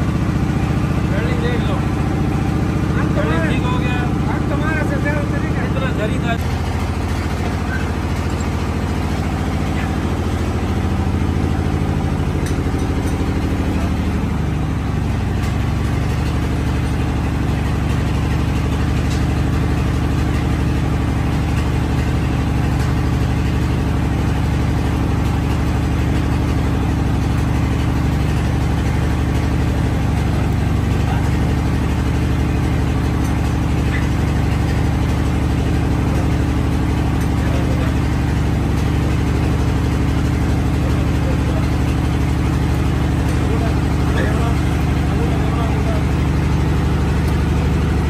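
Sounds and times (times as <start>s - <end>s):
lathe motor humming: 0.0s - 48.0s.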